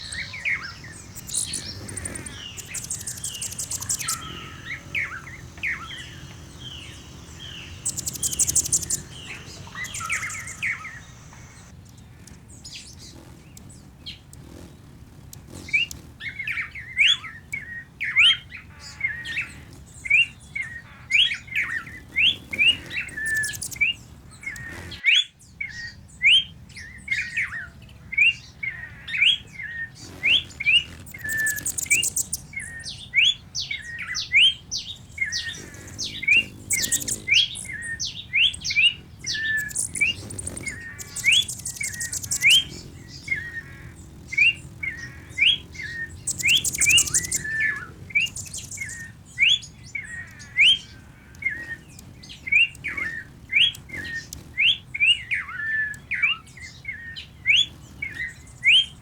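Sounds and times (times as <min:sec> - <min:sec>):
high buzzy bird trill: 0:00.0 - 0:25.0, 0:29.3 - 0:59.0
birds chirping: 0:00.0 - 0:59.0.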